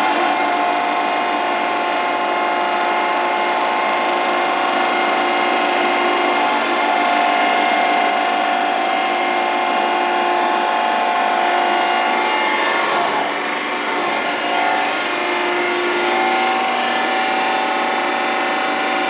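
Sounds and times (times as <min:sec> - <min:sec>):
grinder wheel whining and rasping: 0:00.0 - 0:19.0.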